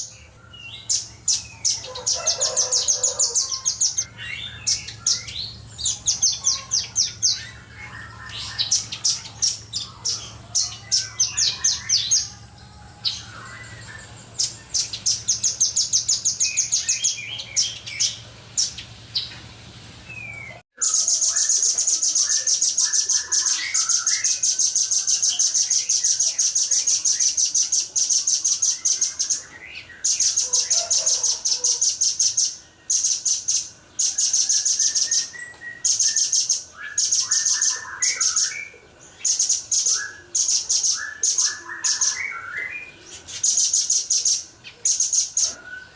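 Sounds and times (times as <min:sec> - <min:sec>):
bird singing rapid trills: 0:00.0 - 0:19.4, 0:20.0 - 0:45.9.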